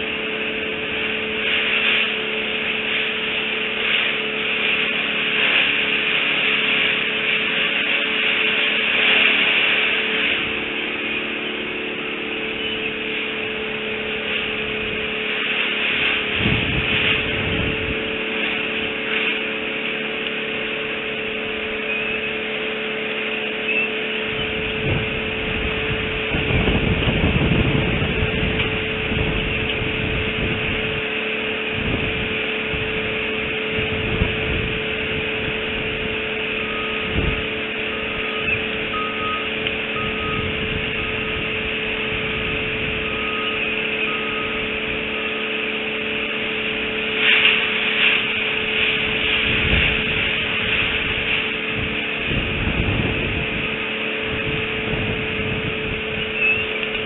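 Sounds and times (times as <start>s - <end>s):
background hum and hiss: 0.0s - 57.0s
constant tones: 0.0s - 57.0s
low rumbles: 0.0s - 57.0s.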